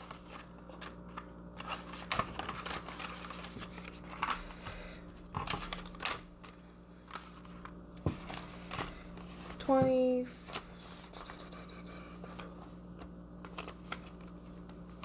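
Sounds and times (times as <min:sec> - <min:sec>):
paper banknotes rustling: 0:00.0 - 0:15.0.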